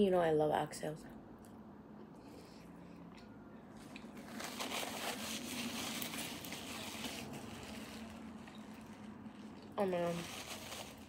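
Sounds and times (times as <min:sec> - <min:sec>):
crunchy food being chewed: 0:01.4 - 0:11.0.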